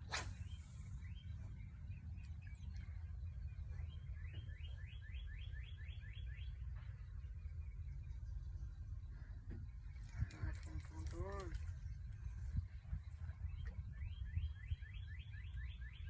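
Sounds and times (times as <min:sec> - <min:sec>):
bird calls: 0:00.0 - 0:16.0
songbird trill: 0:00.0 - 0:16.0.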